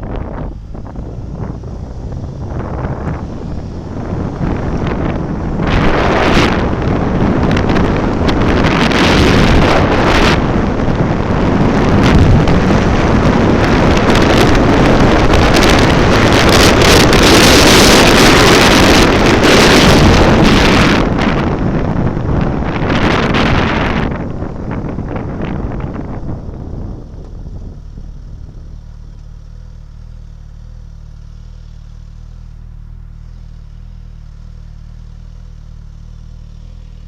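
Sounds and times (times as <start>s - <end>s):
wind rushing over microphone: 0.0s - 29.9s
road and vehicle noise: 0.0s - 37.0s.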